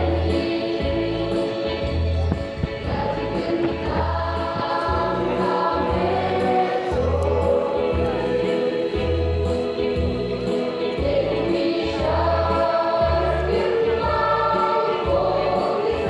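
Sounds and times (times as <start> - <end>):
low bass notes: 0.0 - 13.5
choir singing over loudspeakers: 0.0 - 16.0.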